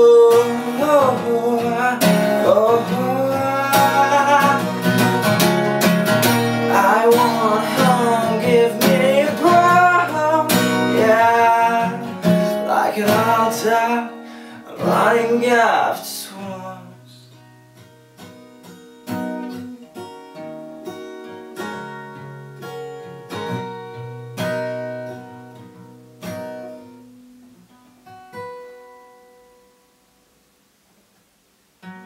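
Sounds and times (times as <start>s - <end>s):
acoustic guitar chords ringing: 0.0s - 30.6s, 31.8s - 32.0s.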